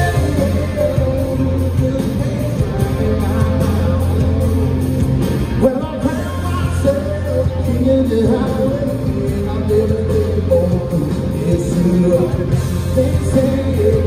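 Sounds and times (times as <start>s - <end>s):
man singing: 0.0s - 14.0s
rock band playing: 0.0s - 14.0s.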